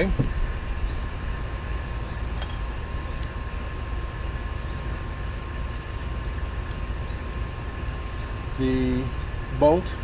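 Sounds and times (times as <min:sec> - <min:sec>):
faint constant hum: 0:00.0 - 0:10.0
low outdoor rumble: 0:00.0 - 0:10.0.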